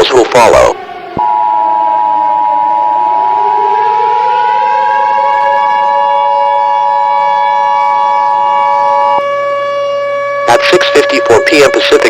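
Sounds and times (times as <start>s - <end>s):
civil defense siren wailing: 0.0s - 12.0s.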